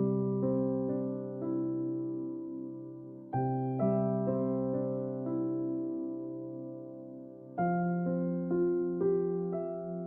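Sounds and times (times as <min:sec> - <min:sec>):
soft keyboard melody: 0:00.0 - 0:10.0.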